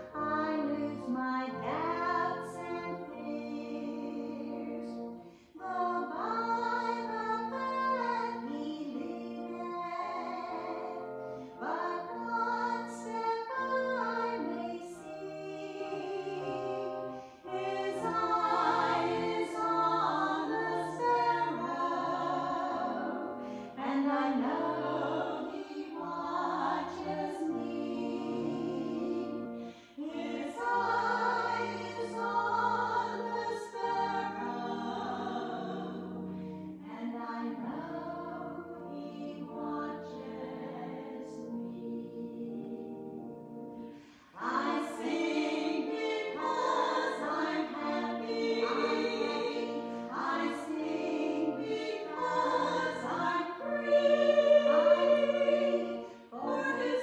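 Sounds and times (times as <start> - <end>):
instrumental accompaniment: 0.0 - 57.0
women singing a hymn: 0.0 - 57.0.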